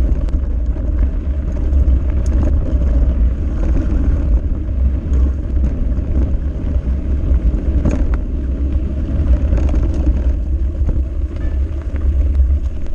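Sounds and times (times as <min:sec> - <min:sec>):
bike rattling over rocks: 0:00.0 - 0:12.9
knobby tyres rolling over dirt: 0:00.0 - 0:12.9
wind rumble on microphone: 0:00.0 - 0:12.9.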